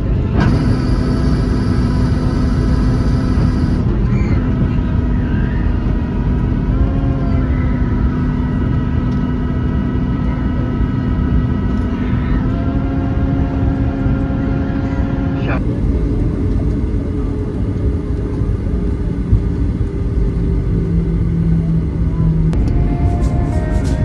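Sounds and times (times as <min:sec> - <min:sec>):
aircraft cabin engine rumble: 0:00.0 - 0:24.0
high-pitched whine: 0:00.0 - 0:24.0.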